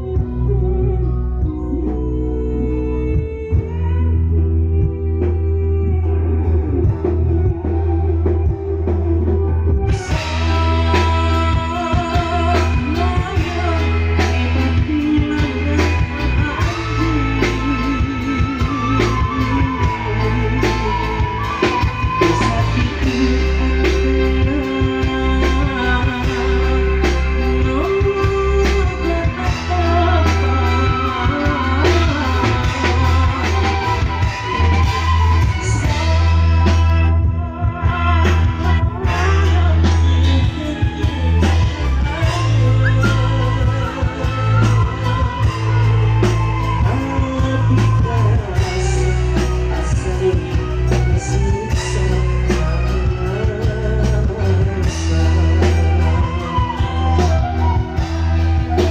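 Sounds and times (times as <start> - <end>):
combo band music: 0.0 - 58.9
drums and cymbals: 0.0 - 58.9.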